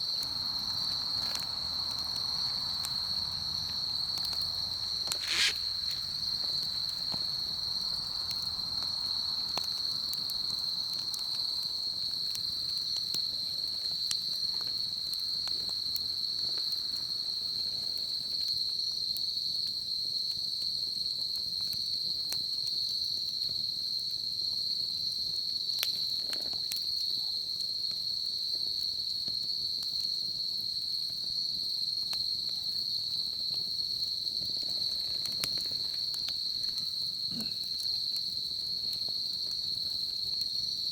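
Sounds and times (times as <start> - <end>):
crickets chirring: 0.0 - 20.8, 22.8 - 40.9
bonfire crackling and popping: 0.0 - 40.9.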